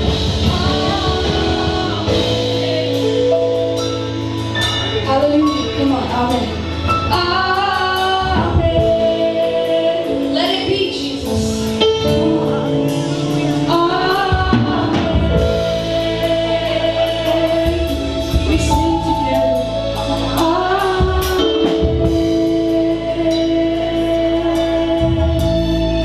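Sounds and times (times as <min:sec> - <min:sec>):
gospel singing with band: 0:00.0 - 0:26.0.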